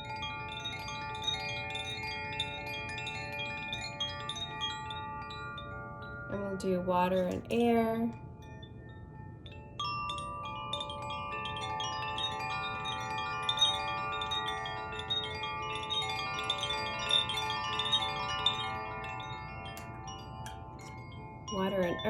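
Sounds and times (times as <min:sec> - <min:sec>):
wind chimes ringing: 0:00.0 - 0:22.0.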